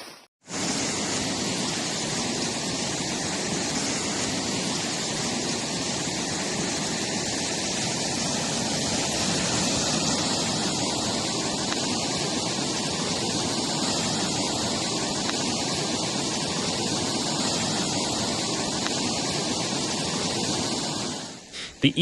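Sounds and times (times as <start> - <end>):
floodwater rushing: 0.5 - 22.0.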